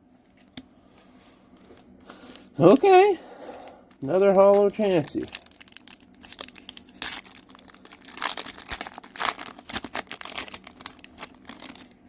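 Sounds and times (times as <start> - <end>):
foil wrapper crinkling: 2.2 - 12.0.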